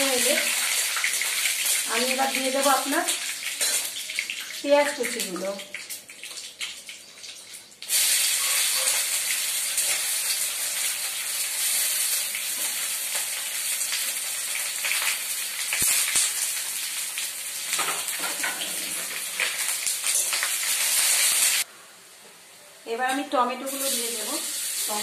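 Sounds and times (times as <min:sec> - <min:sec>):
onions sizzling in hot oil: 0:00.0 - 0:21.7, 0:22.9 - 0:25.0.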